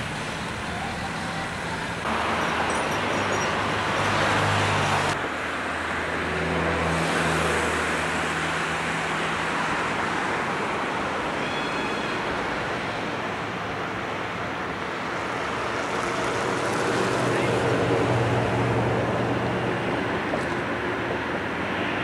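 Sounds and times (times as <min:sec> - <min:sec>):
tyres on road: 0:00.0 - 0:22.0.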